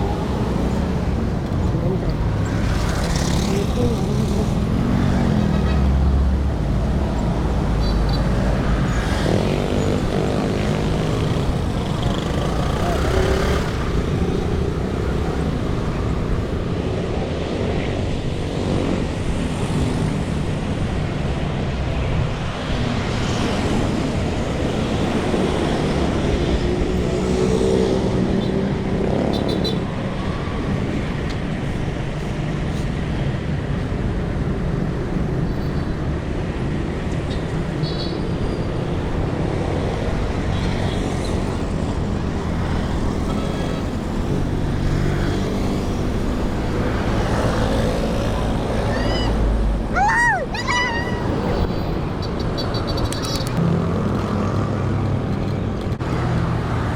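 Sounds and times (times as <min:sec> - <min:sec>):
vehicles passing: 0:00.0 - 0:56.9
wind and road noise: 0:00.0 - 0:56.9.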